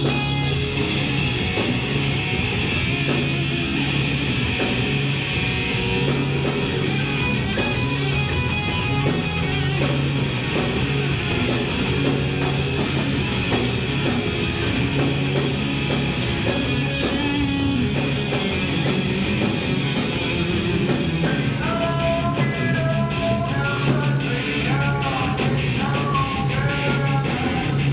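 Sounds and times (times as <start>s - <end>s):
electric guitar: 0.0s - 27.9s
live rock band playing: 0.0s - 27.9s.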